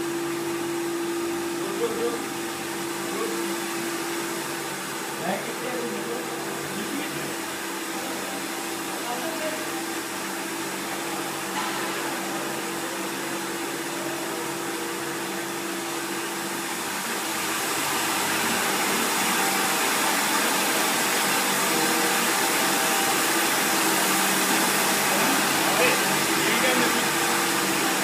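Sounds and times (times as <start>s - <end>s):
filling machine humming: 0.0s - 28.0s.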